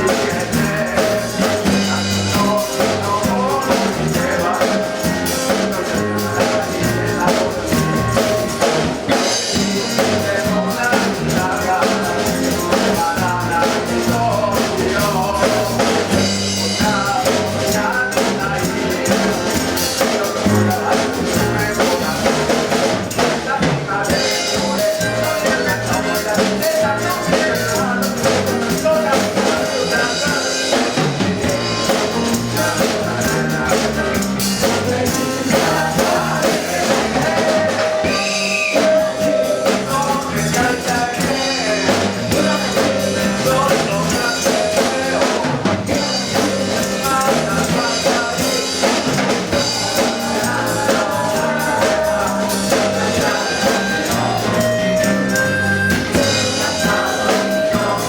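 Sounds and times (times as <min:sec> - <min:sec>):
band playing live: 0:00.0 - 0:58.0.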